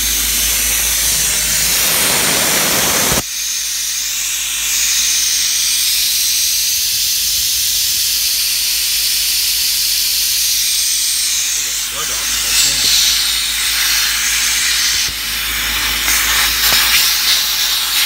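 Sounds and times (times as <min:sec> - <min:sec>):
gas hissing from a leak: 0:00.0 - 0:18.0.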